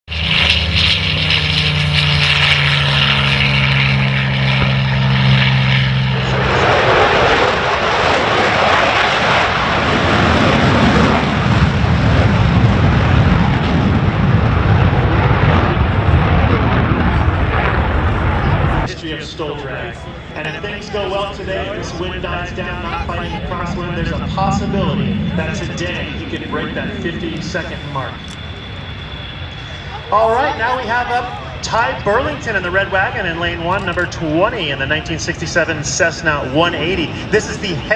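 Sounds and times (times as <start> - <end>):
aircraft engine drone: 0.1 - 37.9
broad rushing roar: 0.1 - 37.9.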